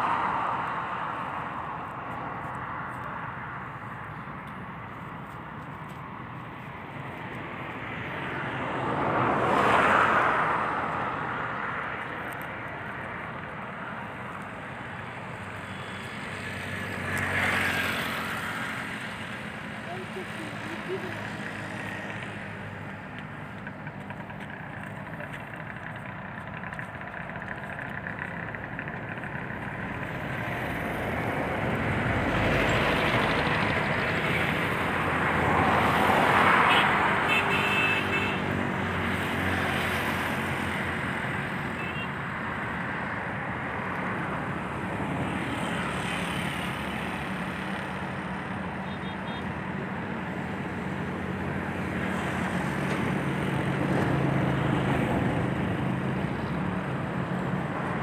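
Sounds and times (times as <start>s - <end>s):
road vehicle passing: 0.0s - 58.0s.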